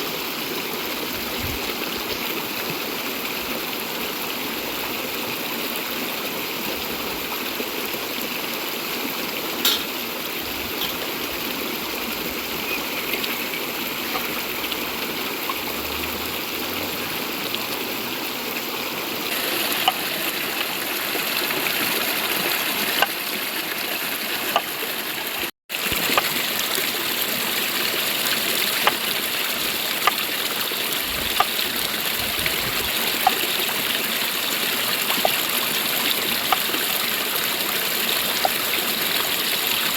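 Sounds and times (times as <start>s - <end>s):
river water running over rocks: 0.0s - 39.9s.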